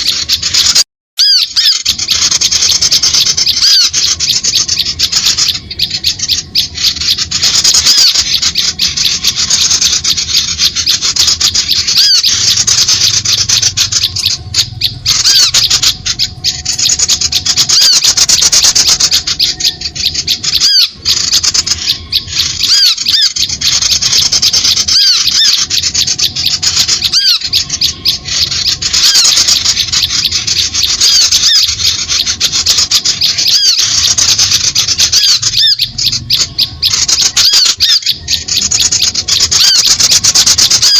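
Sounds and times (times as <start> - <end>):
small birds chattering and chirping: 0.0 - 40.9.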